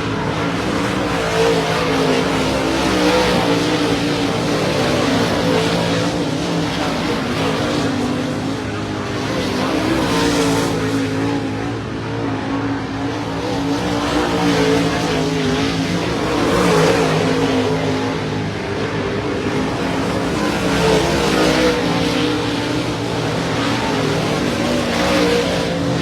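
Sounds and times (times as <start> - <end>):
race car engines running: 0.0 - 26.0.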